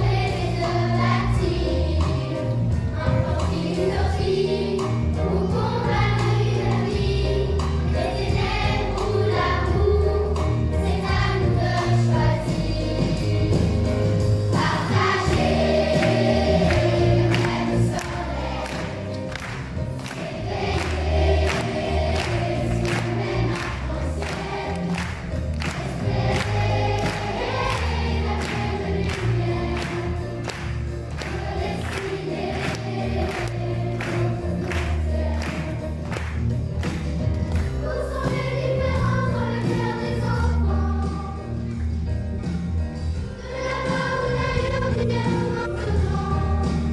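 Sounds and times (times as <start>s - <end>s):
children's choir singing: 0.0s - 36.4s, 37.5s - 41.7s, 43.4s - 46.9s
bass and drums beat: 0.0s - 46.9s.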